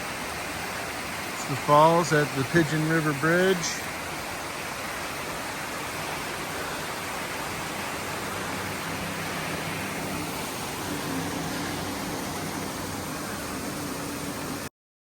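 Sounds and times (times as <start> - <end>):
waterfall roaring: 0.0 - 14.7.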